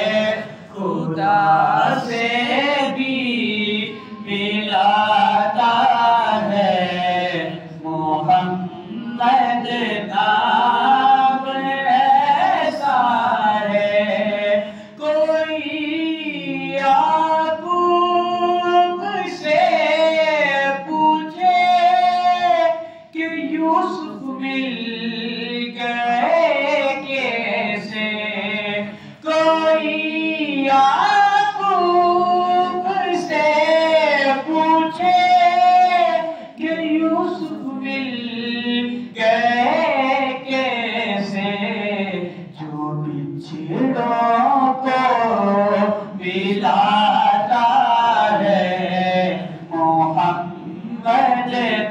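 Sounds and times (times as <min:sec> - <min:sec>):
man singing unaccompanied: 0:00.0 - 0:51.9.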